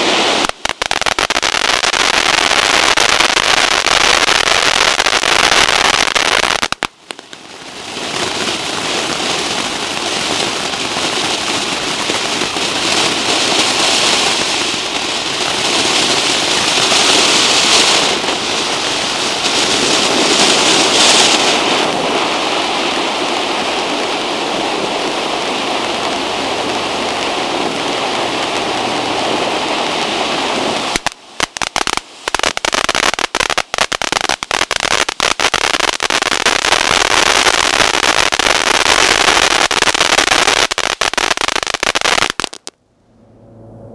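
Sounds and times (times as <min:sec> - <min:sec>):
fireworks hissing rush: 0:00.0 - 0:42.7
fireworks crackling: 0:00.0 - 0:42.8.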